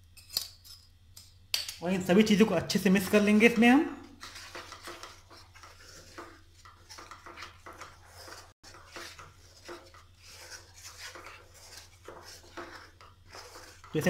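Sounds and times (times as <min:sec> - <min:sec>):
wooden spatula scraping a pan: 0:01.9 - 0:14.0.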